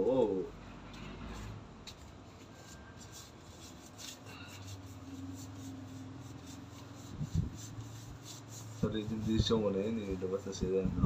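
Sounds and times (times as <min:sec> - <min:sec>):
gloved hands rubbing skin: 0:01.4 - 0:10.8.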